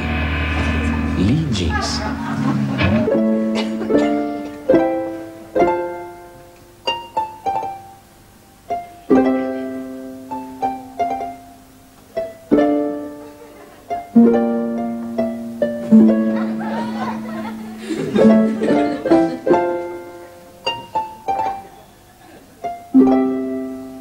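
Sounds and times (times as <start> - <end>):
plucked string instrument notes: 0.0 - 24.0.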